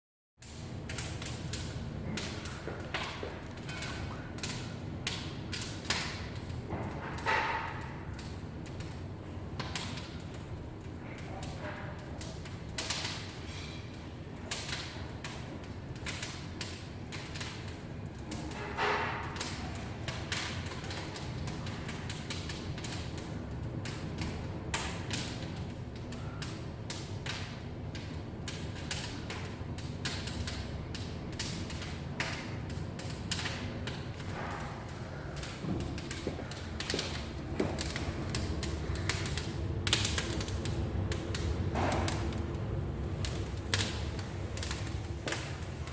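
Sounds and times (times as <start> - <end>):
steady low hum: 0.4 - 45.9.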